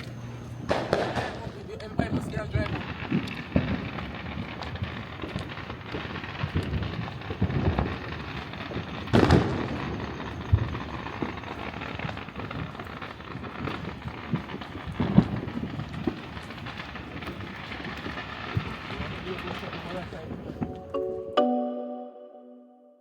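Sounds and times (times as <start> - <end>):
background rumble: 0.0 - 20.8
fireworks bangs: 0.0 - 20.9.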